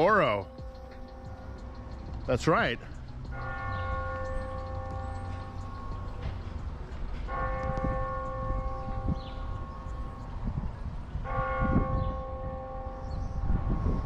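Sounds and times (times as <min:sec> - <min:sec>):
large bell tolling: 0:00.0 - 0:14.0.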